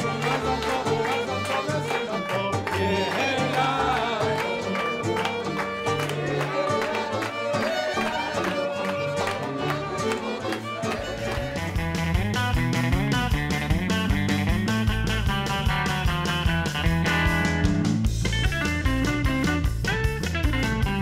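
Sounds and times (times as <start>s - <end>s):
music with steady beat and bass: 0.0s - 7.5s, 9.0s - 21.0s.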